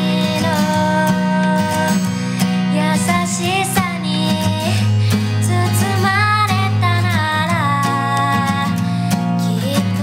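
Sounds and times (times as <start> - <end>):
strummed acoustic guitar: 0.0 - 10.0
woman singing: 0.0 - 10.0.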